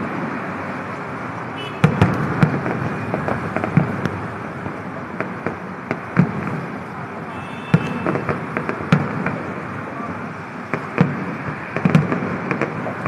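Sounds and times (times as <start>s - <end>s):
fireworks bangs and cracks: 0.0s - 13.0s
steady background noise: 0.0s - 13.0s.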